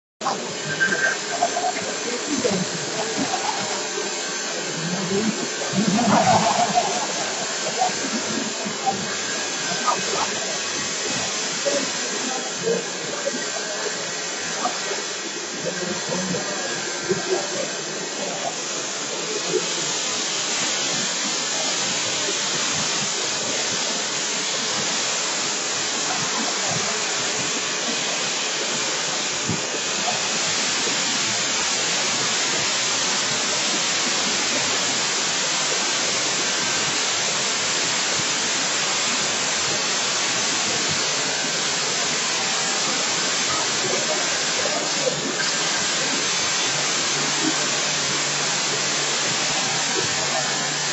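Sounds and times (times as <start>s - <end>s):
dust extraction hiss: 0.2s - 50.9s
power tools running: 0.2s - 50.9s.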